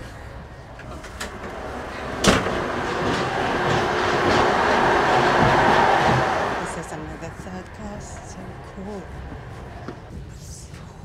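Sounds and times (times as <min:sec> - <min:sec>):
gangway door clack: 0:00.7 - 0:10.1
train wheels rattling on rails: 0:00.7 - 0:10.1.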